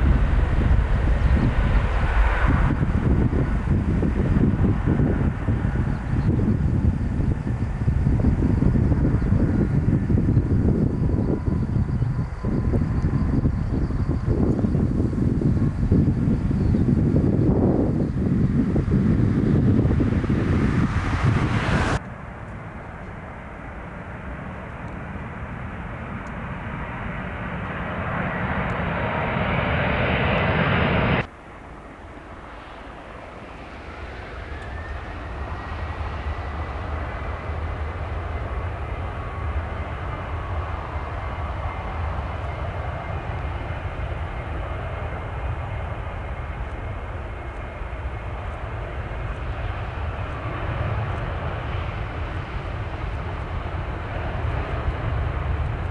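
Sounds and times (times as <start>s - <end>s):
jet airliner engines roaring: 0.0s - 55.9s
jet roar with thin whine: 0.0s - 55.9s.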